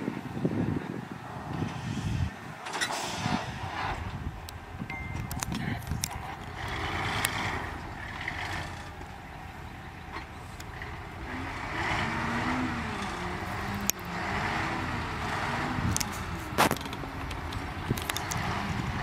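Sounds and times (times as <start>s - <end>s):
diesel machinery running: 0.0s - 19.0s.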